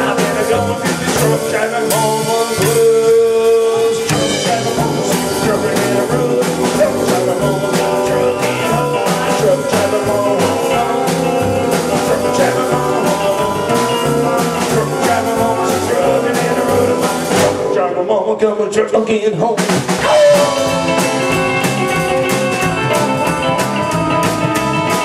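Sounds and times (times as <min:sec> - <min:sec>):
rock band playing: 0:00.0 - 0:17.8, 0:19.6 - 0:25.0.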